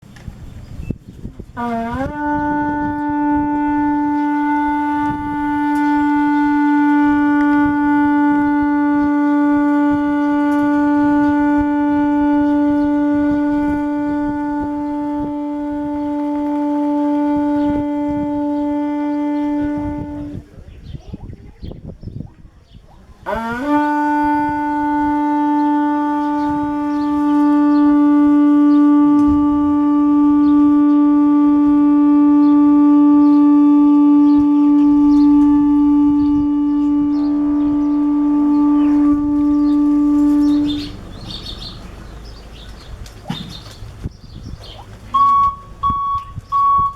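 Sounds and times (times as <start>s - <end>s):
conch-shell trumpet long note: 1.6s - 20.8s, 23.2s - 43.5s, 45.1s - 46.9s.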